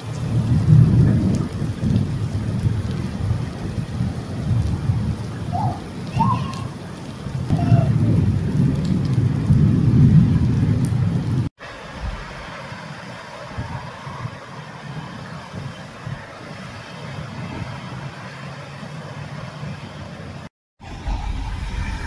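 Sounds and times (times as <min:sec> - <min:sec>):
floodwater cascading down rocks: 0:00.0 - 0:21.8
heavy rain on flooded road: 0:00.0 - 0:21.9.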